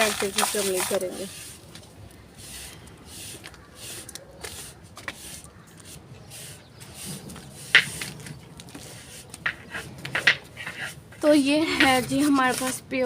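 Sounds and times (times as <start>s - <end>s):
faint gritty rustle: 0.0s - 13.0s.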